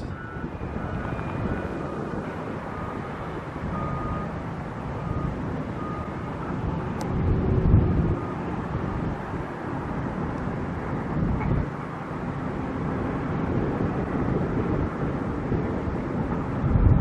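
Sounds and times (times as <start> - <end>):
construction machinery engine rumble: 0.0 - 17.0.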